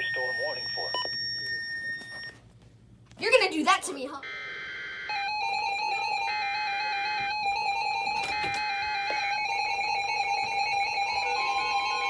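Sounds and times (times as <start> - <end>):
warbling alarm tone: 0.0 - 2.3, 4.2 - 12.0
alarm beeping: 0.0 - 2.4, 4.2 - 12.0.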